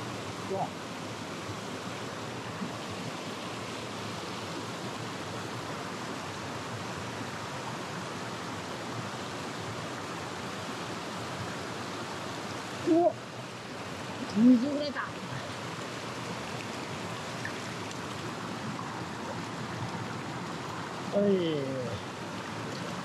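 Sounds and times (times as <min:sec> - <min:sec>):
stream rushing over rocks: 0:00.0 - 0:23.0.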